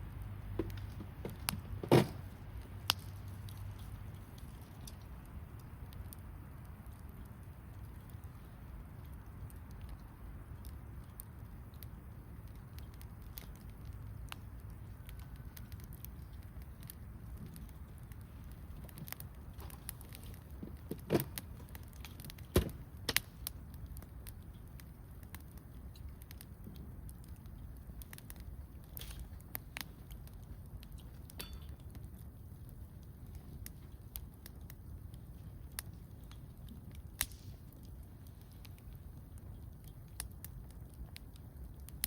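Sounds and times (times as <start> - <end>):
campfire burning and crackling: 0.0 - 42.0
fire popping loudly: 0.1 - 42.0.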